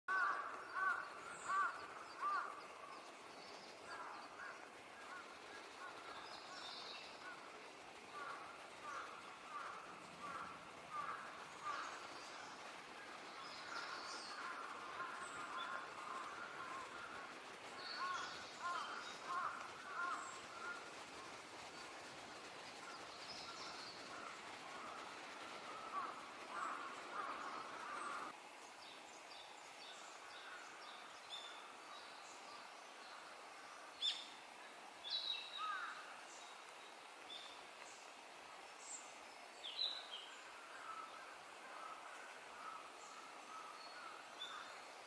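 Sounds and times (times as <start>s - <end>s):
loud arched bird calls: 0.1s - 28.4s, 29.9s - 36.7s, 38.8s - 45.0s.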